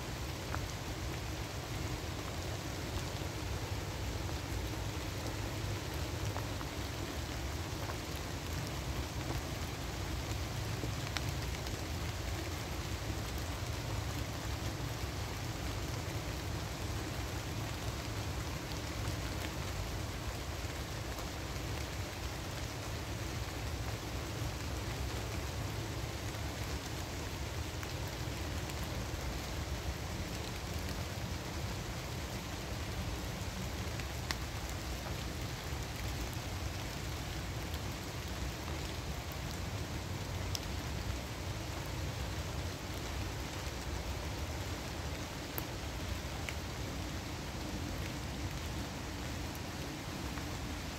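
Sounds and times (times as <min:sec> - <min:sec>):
rain on leaves: 0:00.0 - 0:50.9.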